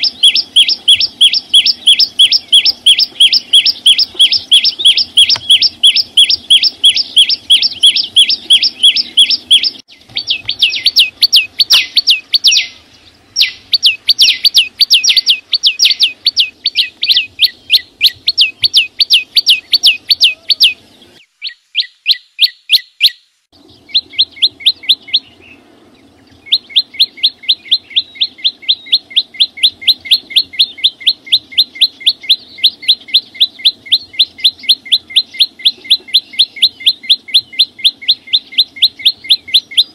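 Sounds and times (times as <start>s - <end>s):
small songbird singing: 0.0s - 39.9s.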